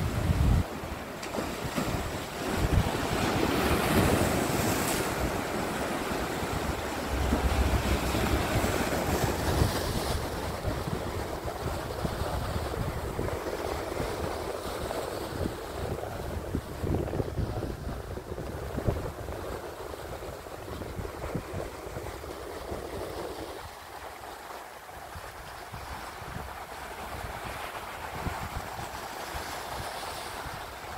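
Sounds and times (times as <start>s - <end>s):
wind rumbling on microphone: 0.0s - 1.0s, 1.6s - 23.9s, 25.0s - 30.9s
sea waves breaking on rocks: 0.0s - 30.9s.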